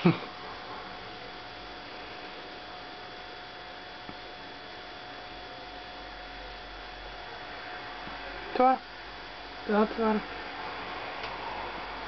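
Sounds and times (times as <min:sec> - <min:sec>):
electrical hum and hiss: 0:00.0 - 0:12.0
thin constant whine: 0:00.0 - 0:12.0.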